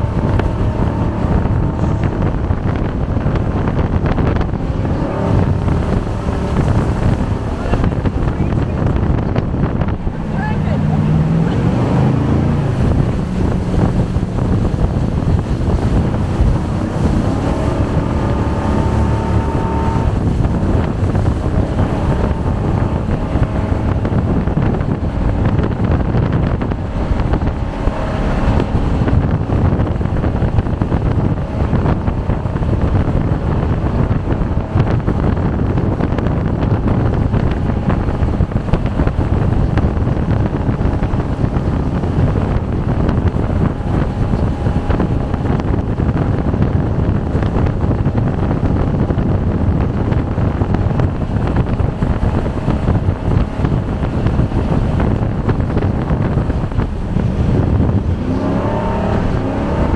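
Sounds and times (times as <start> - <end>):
jet boat engine roaring: 0.0 - 59.9
wind buffeting microphone: 0.0 - 59.9.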